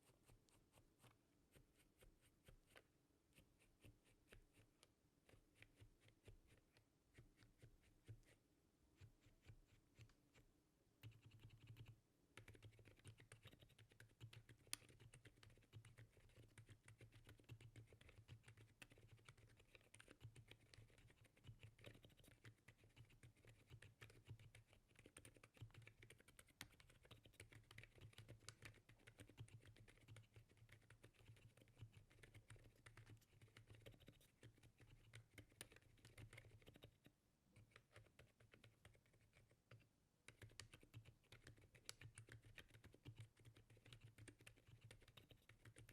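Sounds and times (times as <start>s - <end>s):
quiet mechanical keyboard typing: 9.0s - 45.9s.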